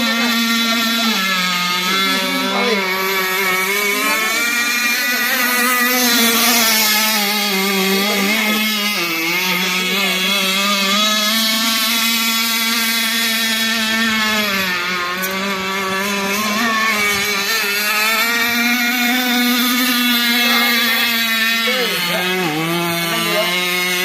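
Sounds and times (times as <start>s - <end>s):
model boat engine buzzing: 0.0s - 24.0s.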